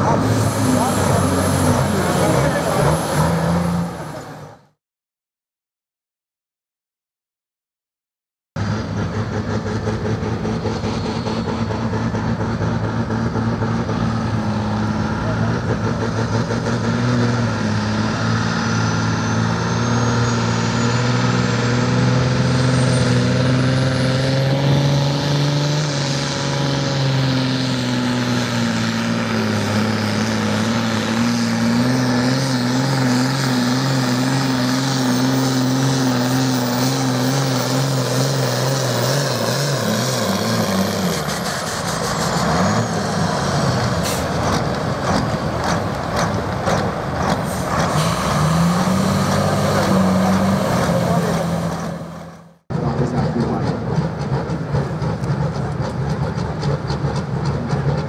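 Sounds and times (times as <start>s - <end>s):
tractor engine running hard: 0.0s - 4.7s, 8.6s - 58.0s.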